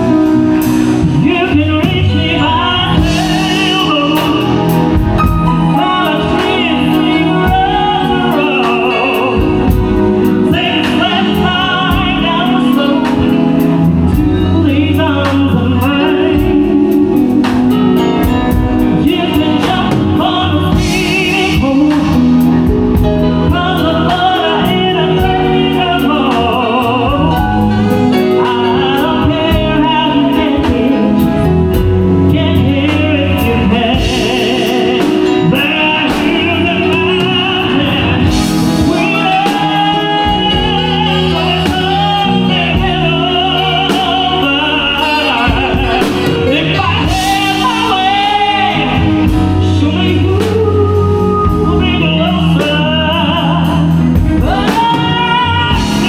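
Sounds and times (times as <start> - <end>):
band playing with singer: 0.0 - 56.0.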